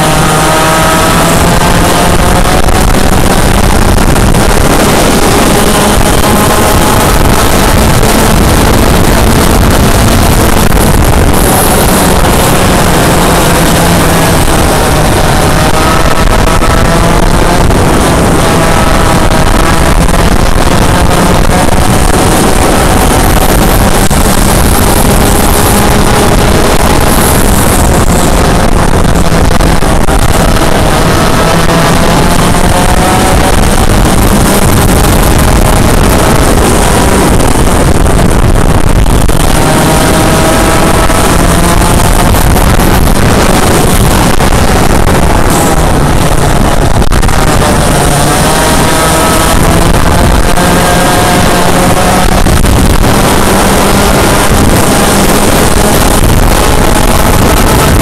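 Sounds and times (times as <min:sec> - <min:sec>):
kart engine running flat out: 0:00.0 - 0:58.0.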